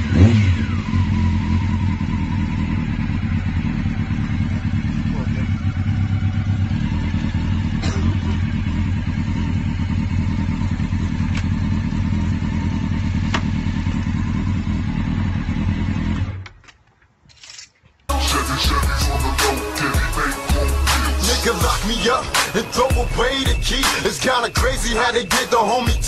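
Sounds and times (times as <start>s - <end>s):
motorcycle engine idling: 0.0s - 16.5s, 18.1s - 26.0s.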